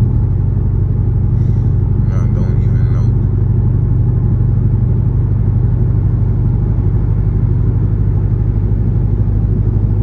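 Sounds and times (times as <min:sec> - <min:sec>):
car engine cruising: 0:00.0 - 0:10.0.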